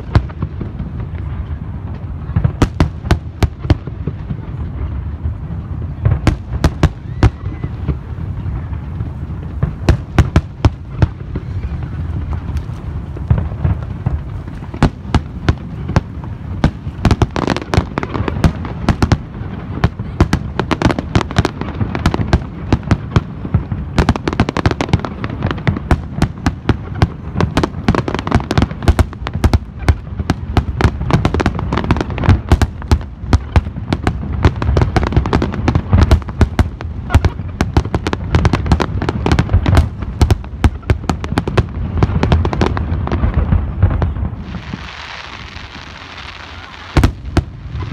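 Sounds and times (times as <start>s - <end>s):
fireworks barrage: 0.0s - 47.9s.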